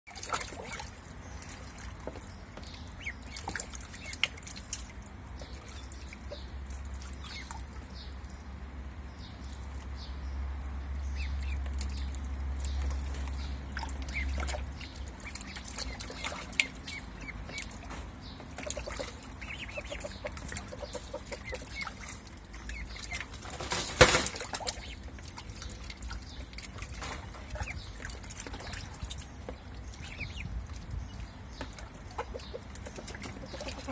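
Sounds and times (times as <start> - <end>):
ducklings splashing in water: 0.1 - 33.9.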